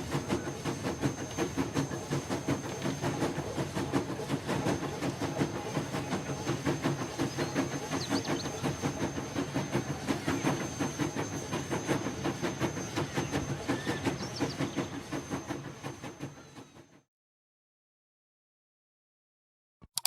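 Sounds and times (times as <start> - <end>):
train wheels clicking over rail joints: 0.0 - 16.4
railway carriage rumble: 0.0 - 17.0.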